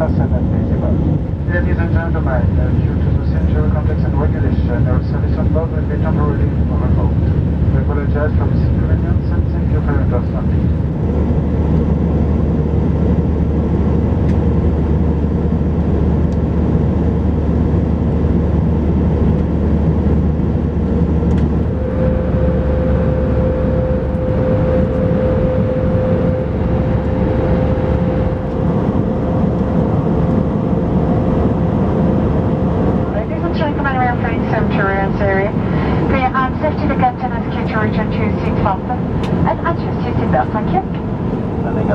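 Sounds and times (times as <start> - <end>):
aircraft cabin engine and airflow roar: 0.0 - 41.9
steady hum: 0.0 - 41.9.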